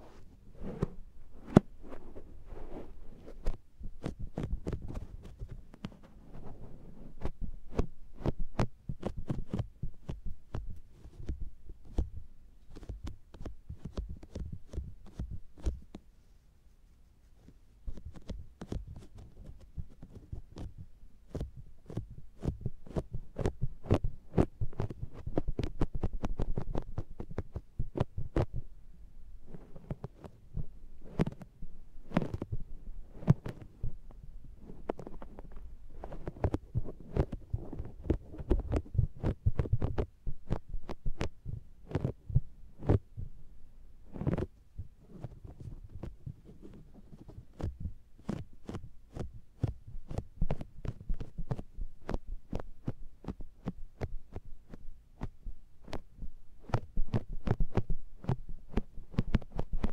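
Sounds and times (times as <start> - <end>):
sponge patting microphone: 0.0 - 28.8, 29.4 - 43.4, 44.0 - 59.9.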